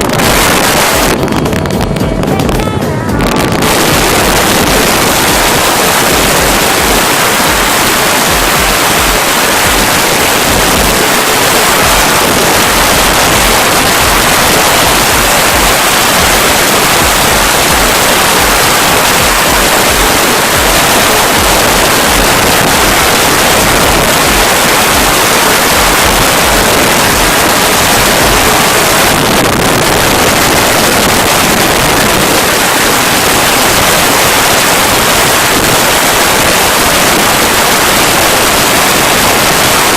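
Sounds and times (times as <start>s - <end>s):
low rumble: 0.0s - 32.4s
wind buffeting microphone: 0.0s - 39.9s.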